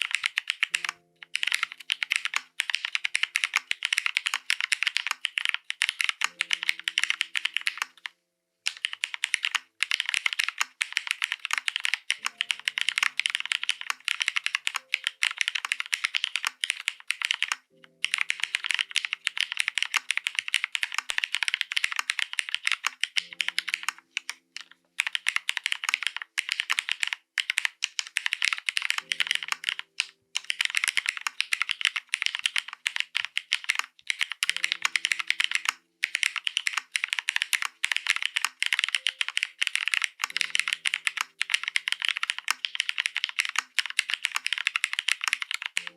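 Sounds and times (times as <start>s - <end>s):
mechanical keyboard typing: 0.0s - 45.9s.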